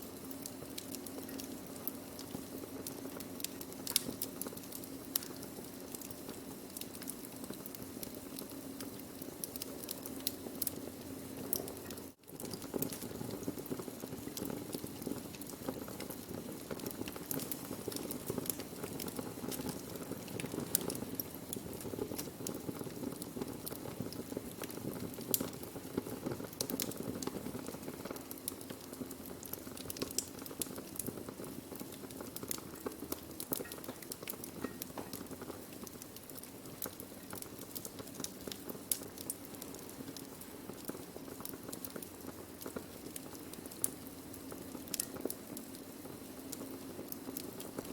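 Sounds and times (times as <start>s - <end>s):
fire crackling and popping: 0.0s - 47.9s
low rush of flame: 0.1s - 47.9s.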